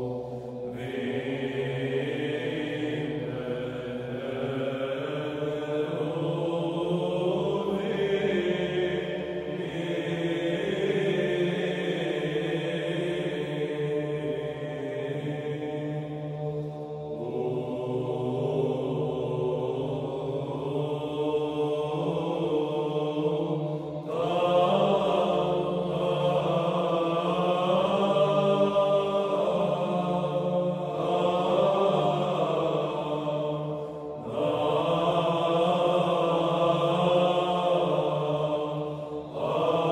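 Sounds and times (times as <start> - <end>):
group of low voices chanting: 0.0 - 39.9.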